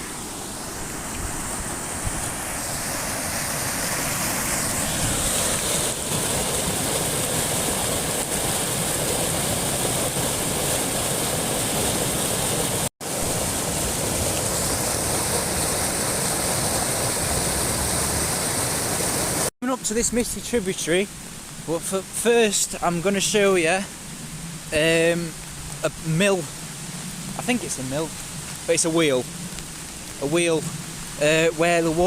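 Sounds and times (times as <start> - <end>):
roar of fast-flowing floodwater: 0.0 - 19.5, 21.7 - 32.0.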